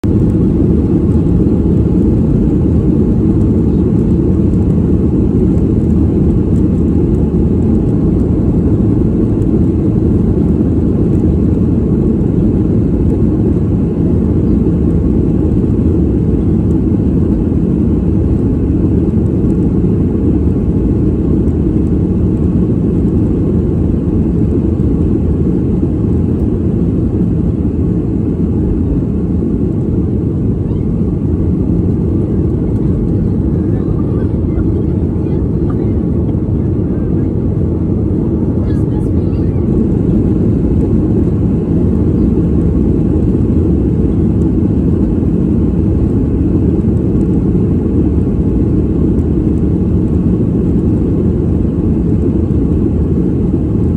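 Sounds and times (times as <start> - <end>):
airliner cabin engine rumble: 0.0 - 53.9.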